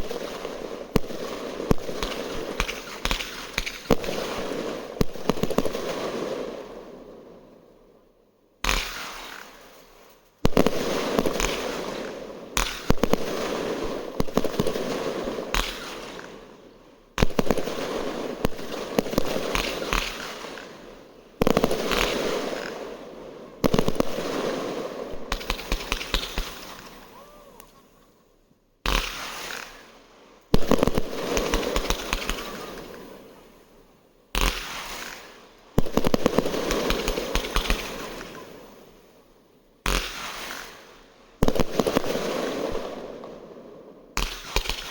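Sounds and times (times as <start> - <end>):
firework bangs: 0.0 - 7.1, 8.6 - 28.0, 28.8 - 39.0, 39.8 - 44.9
firework crackling: 0.0 - 7.1, 8.6 - 28.2, 28.8 - 39.1, 39.9 - 43.5, 44.2 - 44.9.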